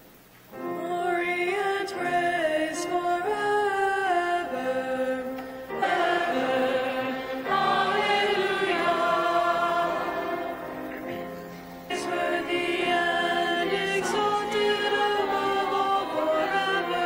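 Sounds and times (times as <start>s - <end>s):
cantors chanting: 2.0s - 17.0s.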